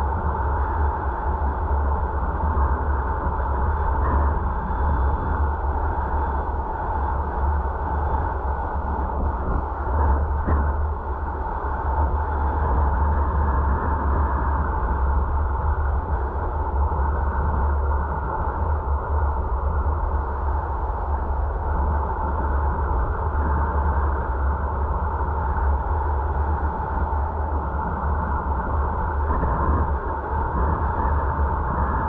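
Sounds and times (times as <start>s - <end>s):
car road and wind noise: 0.0s - 32.0s
steady whine: 0.0s - 32.0s.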